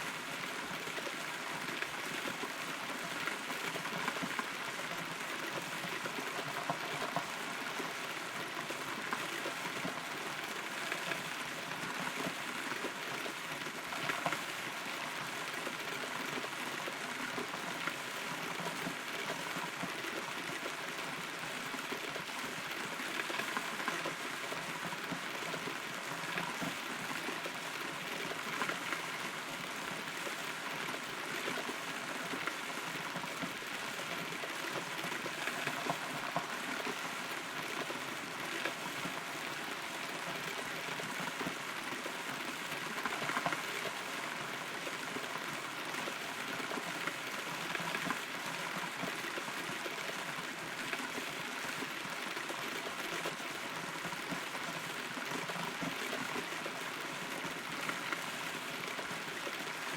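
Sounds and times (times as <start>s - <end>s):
rain pattering on wood: 0.1s - 59.9s.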